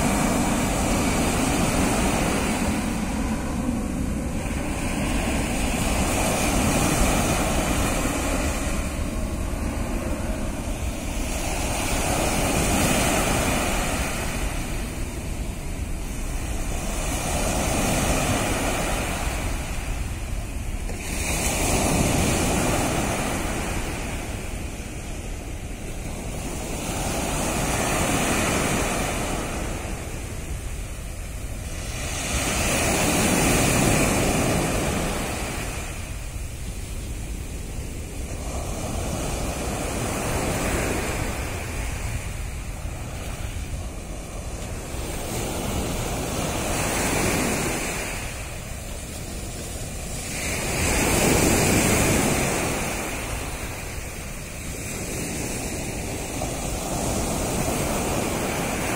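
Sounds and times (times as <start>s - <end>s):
sea waves breaking on beach: 0.0s - 58.9s.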